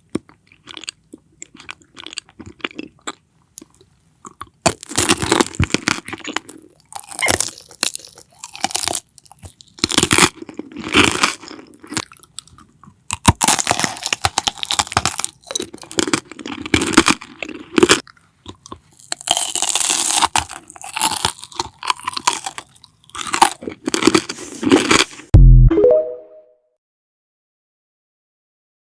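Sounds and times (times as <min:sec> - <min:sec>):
crunchy food being chewed: 0:00.0 - 0:25.3.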